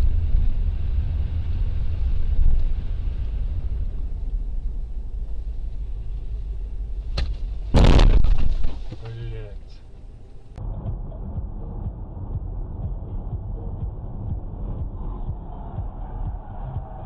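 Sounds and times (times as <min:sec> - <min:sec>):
car engine and tyres on wet road: 0:00.0 - 0:16.4.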